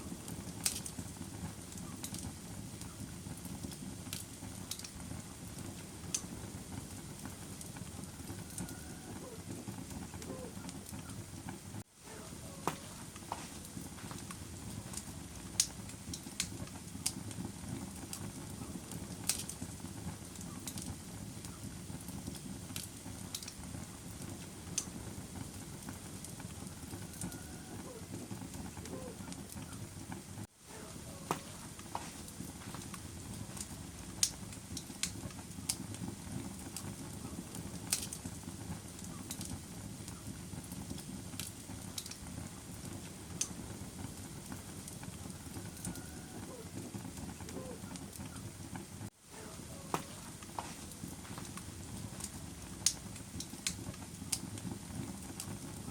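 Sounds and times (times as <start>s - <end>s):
fire crackles and pops: 0.0s - 55.9s
wood fire rumbling: 0.0s - 55.9s.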